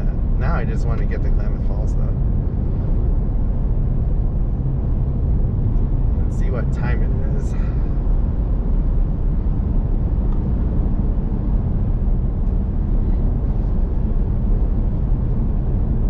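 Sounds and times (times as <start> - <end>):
road and engine noise in cabin: 0.0 - 16.0.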